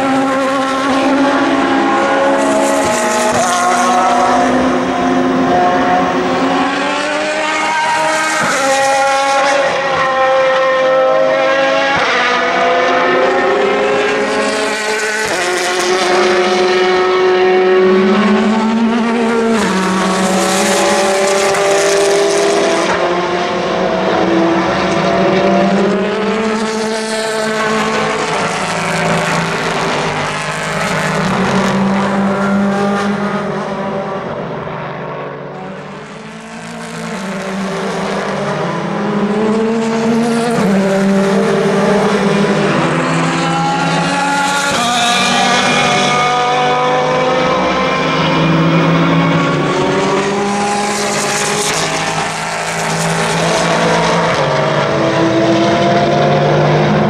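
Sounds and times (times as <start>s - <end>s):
race car engines shifting gears: 0.0s - 57.0s.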